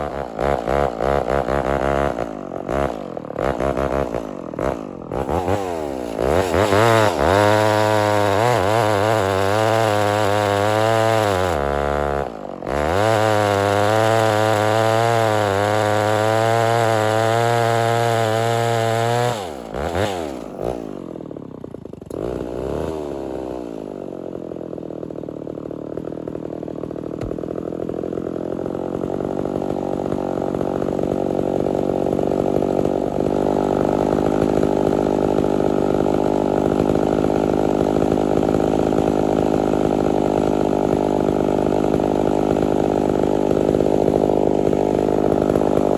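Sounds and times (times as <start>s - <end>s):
chainsaw running at high revs: 0.0s - 45.9s.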